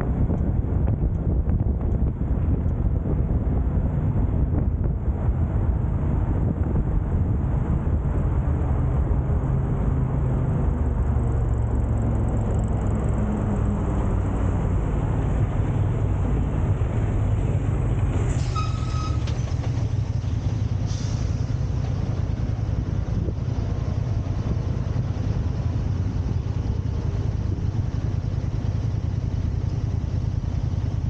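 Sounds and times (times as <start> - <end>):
car driving in traffic: 0.0 - 31.0.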